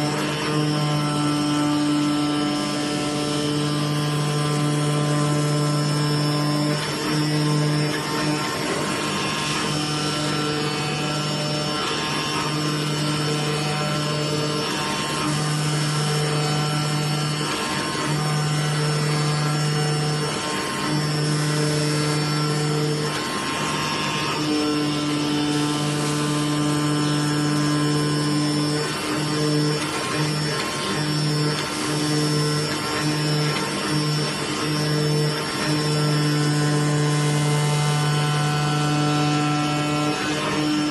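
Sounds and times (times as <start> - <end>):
cutting machine hum: 0.0 - 40.9.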